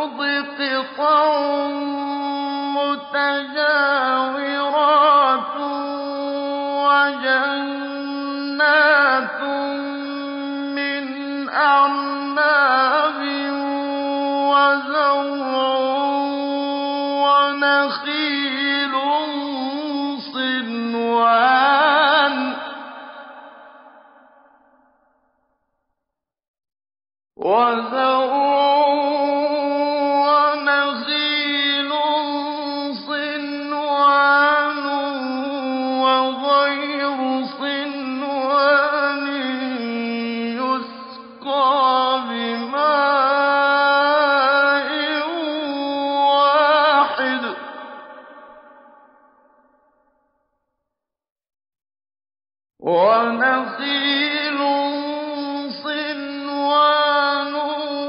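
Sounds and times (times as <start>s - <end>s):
man chanting recitation: 0.0s - 22.8s, 27.4s - 48.1s, 52.8s - 58.0s.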